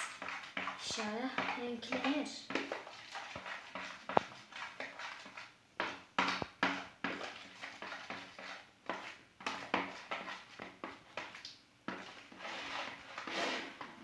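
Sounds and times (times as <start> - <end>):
foamy slime being stirred: 0.0 - 14.0.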